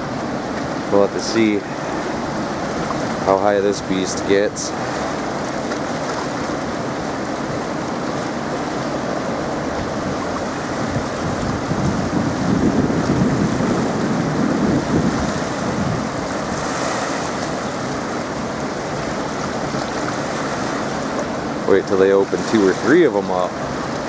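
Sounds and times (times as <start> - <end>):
water rushing through dam gate: 0.0 - 24.0.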